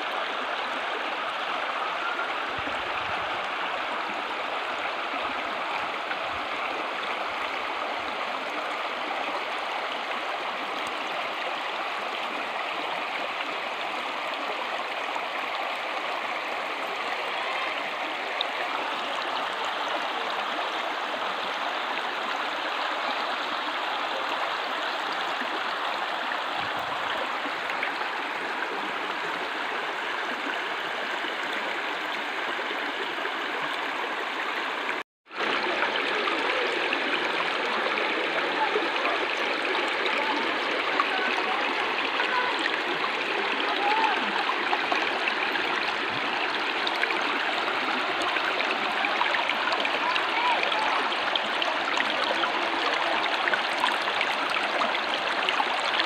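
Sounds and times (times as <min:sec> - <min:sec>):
brook babbling over rocks: 0:00.0 - 0:56.0.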